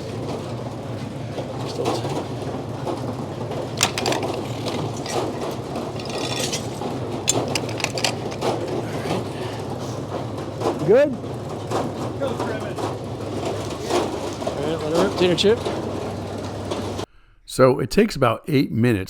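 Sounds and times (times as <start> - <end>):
metal clanks and clicks: 0.0 - 17.1
sawmill humming: 0.0 - 17.1.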